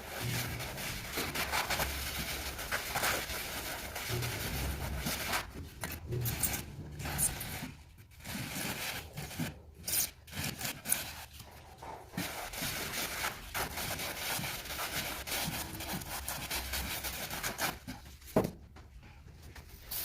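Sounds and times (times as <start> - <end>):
tool scraping cement mortar: 0.0 - 18.0.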